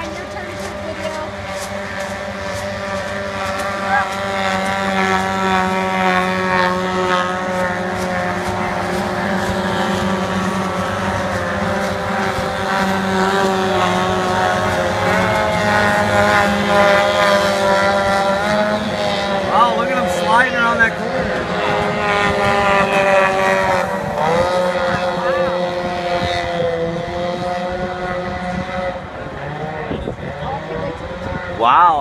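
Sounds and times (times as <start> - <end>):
racing boat engines whining: 0.0 - 32.0.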